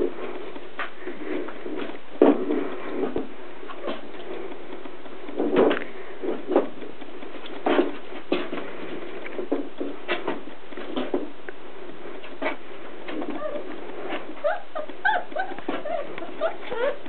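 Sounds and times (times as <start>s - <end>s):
puppies scuffling on mats: 0.0s - 17.0s.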